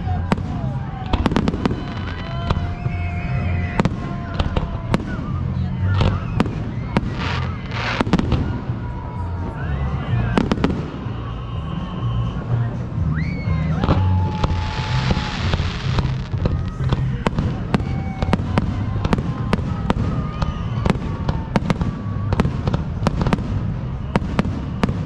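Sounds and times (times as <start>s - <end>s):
firework bangs and crackles: 0.0s - 25.0s.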